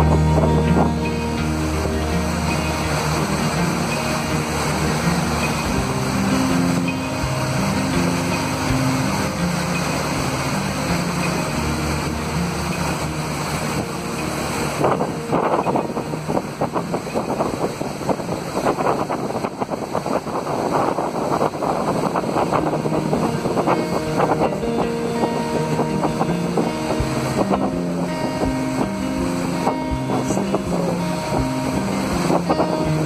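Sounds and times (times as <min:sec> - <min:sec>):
motorboat running: 0:00.0 - 0:33.0
wind buffeting microphone: 0:00.0 - 0:33.0.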